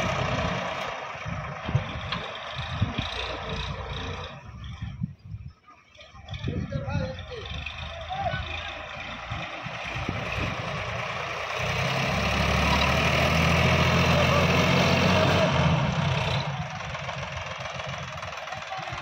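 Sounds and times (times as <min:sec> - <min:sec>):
tractor diesel engine revving: 0:00.0 - 0:19.0.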